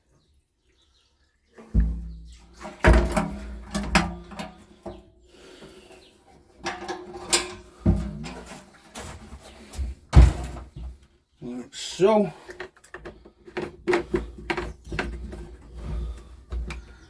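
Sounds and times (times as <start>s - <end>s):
objects knocking and clunking: 1.6s - 11.1s, 12.4s - 17.0s.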